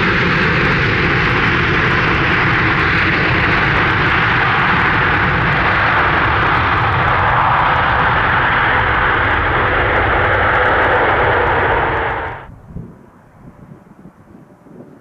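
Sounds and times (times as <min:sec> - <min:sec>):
jet roar: 0:00.0 - 0:14.2
faint wind noise: 0:00.0 - 0:15.0.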